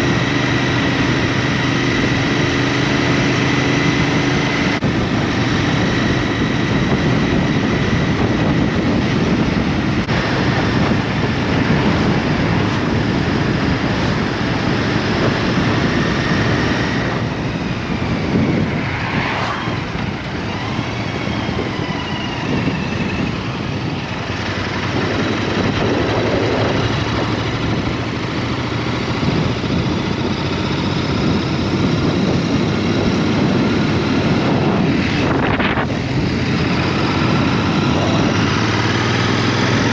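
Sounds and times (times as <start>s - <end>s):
motorbike engine running: 0.0s - 19.2s, 19.8s - 39.9s
wind on microphone: 0.0s - 39.9s.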